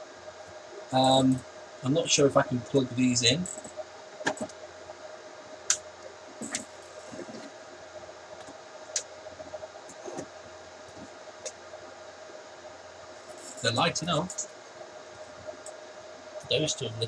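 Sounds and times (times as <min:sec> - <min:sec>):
faint steady tone: 0:00.0 - 0:17.0
server fans humming: 0:00.0 - 0:17.0.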